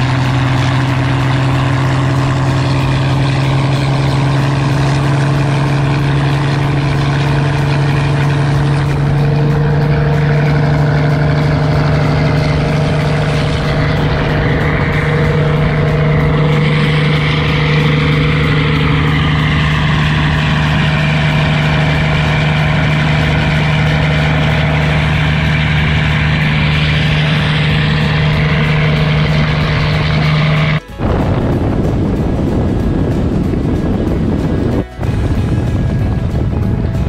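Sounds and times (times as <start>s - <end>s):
boat engine drone: 0.0s - 37.0s
churning wake rushing: 0.0s - 37.0s.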